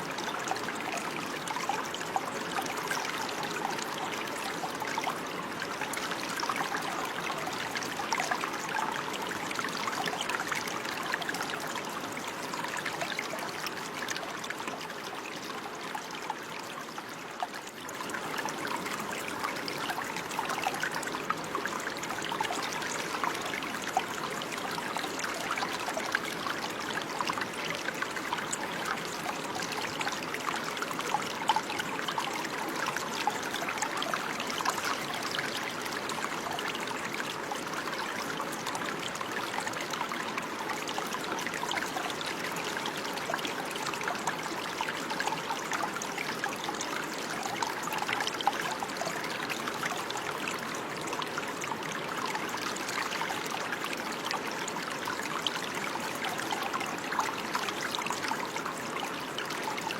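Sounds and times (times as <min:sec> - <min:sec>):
water trickling and babbling: 0:00.0 - 0:59.9.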